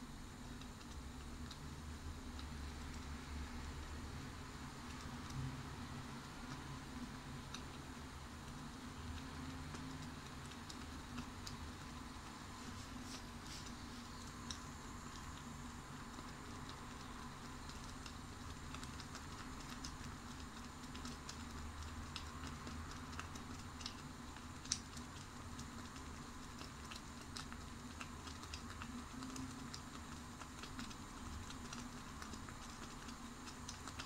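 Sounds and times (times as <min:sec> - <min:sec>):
faint steady hiss: 0:00.0 - 0:34.0
porridge bubbling and popping: 0:00.0 - 0:34.0.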